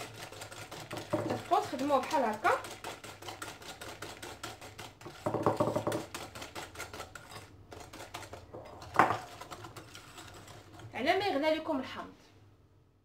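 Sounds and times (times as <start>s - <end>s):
whisk clicking against glass bowl: 0.0s - 11.0s.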